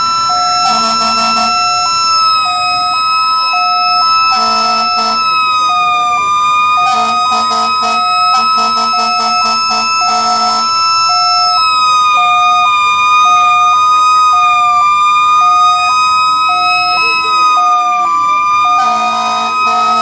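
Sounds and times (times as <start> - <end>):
hi-lo two-tone siren: 0.0 - 20.0
steady high siren tone: 0.0 - 20.0.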